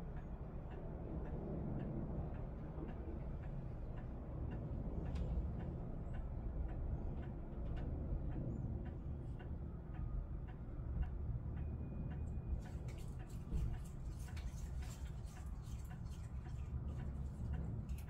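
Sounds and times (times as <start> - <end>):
steady low rumble: 0.0 - 18.0
light regular ticking: 2.3 - 18.0.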